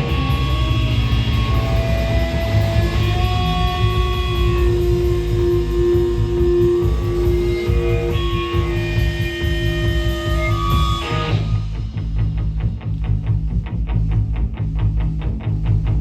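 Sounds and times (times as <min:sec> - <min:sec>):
bass guitar: 0:00.0 - 0:16.0
drums: 0:00.0 - 0:16.0
electric guitars ringing: 0:00.0 - 0:16.0.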